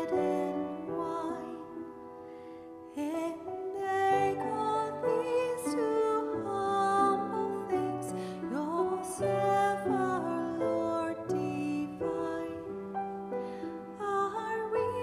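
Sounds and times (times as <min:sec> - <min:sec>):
woman singing: 0:00.0 - 0:02.2, 0:02.9 - 0:15.0
grand piano chords: 0:00.0 - 0:15.0.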